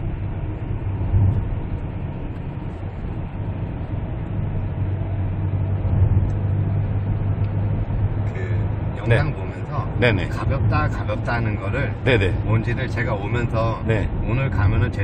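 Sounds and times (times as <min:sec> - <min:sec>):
car engine hum: 0:00.0 - 0:15.0
road and tyre noise: 0:00.0 - 0:15.0.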